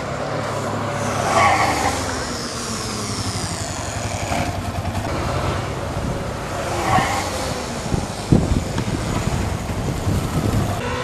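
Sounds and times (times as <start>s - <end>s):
motorcycle engine running: 0.4s - 6.7s, 7.3s - 11.0s.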